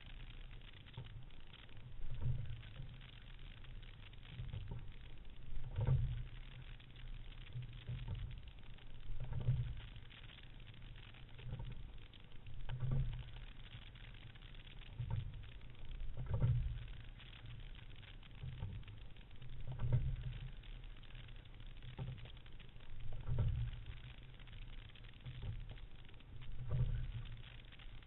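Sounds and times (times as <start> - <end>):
water rushing along a rowing boat: 0.6 - 28.0.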